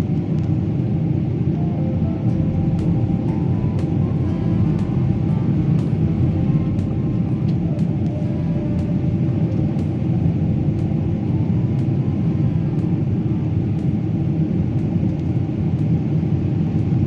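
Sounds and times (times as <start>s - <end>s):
faint steady hums: 0.0s - 17.0s
jet airliner cabin rumble: 0.0s - 17.0s.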